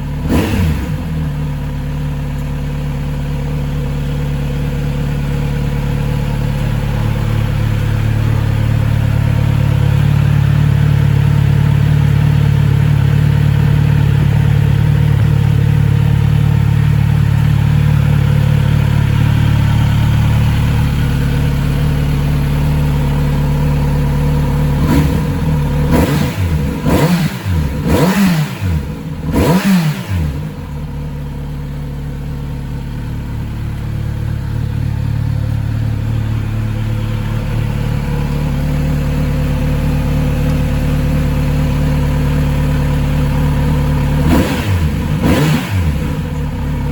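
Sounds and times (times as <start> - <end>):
engine throttle blips: 0.0 - 46.9
motorcycle engine idling: 0.0 - 46.9.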